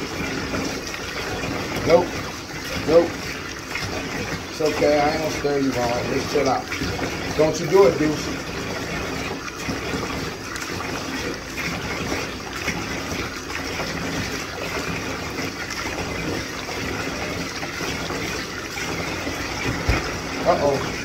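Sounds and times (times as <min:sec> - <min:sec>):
water running into bathtub: 0:00.0 - 0:21.0.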